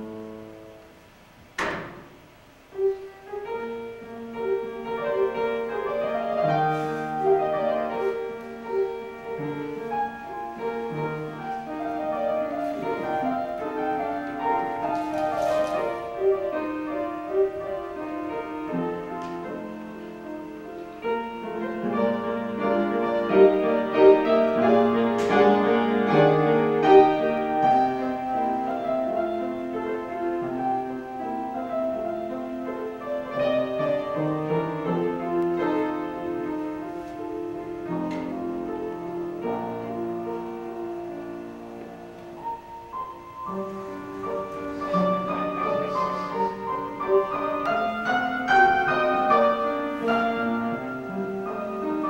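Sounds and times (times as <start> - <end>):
solo piano playing chords: 0.0 - 52.0.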